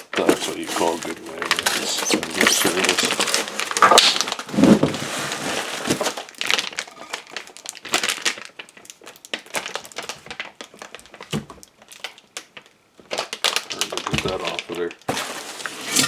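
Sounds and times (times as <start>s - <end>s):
packing material crumpling: 0.0s - 16.0s.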